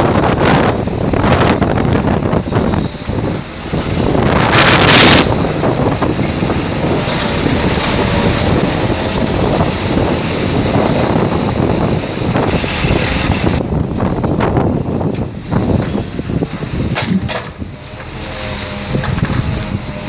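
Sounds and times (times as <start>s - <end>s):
hydraulic crane running: 0.0s - 20.0s
wind buffeting microphone: 0.0s - 20.0s.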